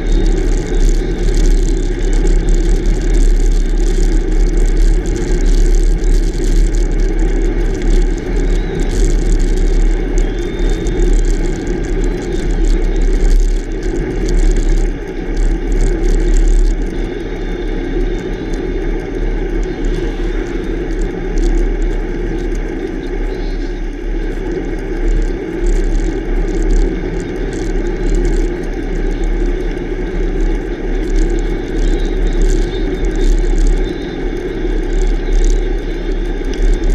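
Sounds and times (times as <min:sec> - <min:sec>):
bicycle tyres on rough asphalt: 0:00.0 - 0:36.9
wind buffeting microphone: 0:00.0 - 0:36.9.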